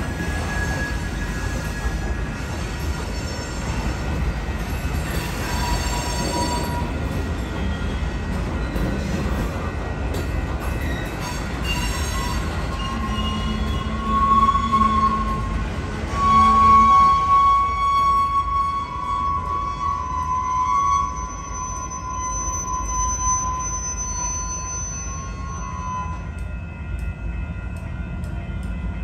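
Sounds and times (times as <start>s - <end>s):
high wheel squeal: 0.0s - 9.5s, 10.7s - 26.4s
train wheels rumbling on rails: 0.0s - 29.0s.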